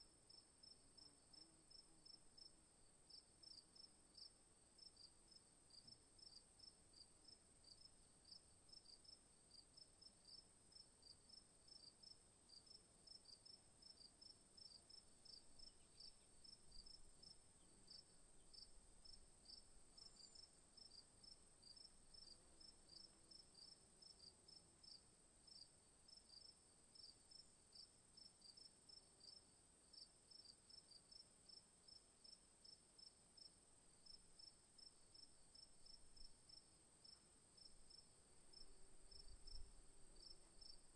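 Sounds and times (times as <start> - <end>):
cricket chirping low: 0.2 - 40.9.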